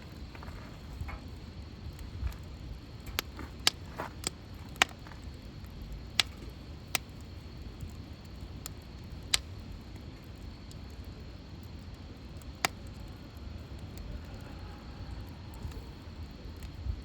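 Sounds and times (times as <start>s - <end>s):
fire low rumble: 0.0s - 17.0s
firewood crackling and popping: 0.0s - 17.0s.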